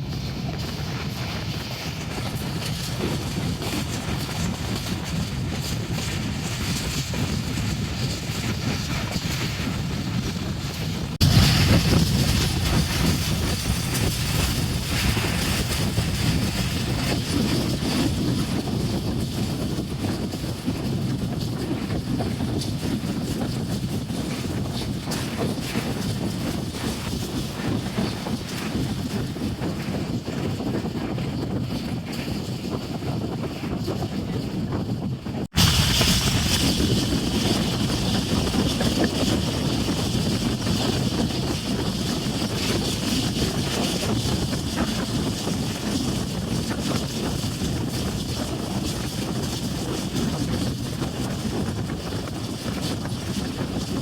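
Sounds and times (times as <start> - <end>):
passenger train rumbling: 0.0 - 54.0.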